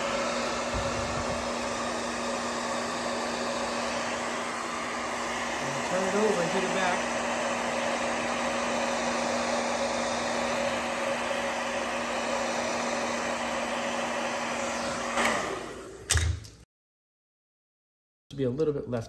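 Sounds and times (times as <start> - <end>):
hairdryer blowing with even hum: 0.0 - 16.2.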